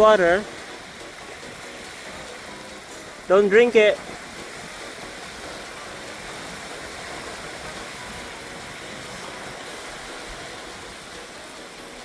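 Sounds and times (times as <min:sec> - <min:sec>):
small waves washing ashore: 0:00.0 - 0:12.0.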